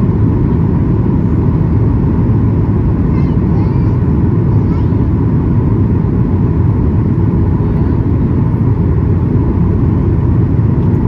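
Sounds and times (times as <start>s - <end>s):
airplane cabin rumble in flight: 0.0s - 11.0s.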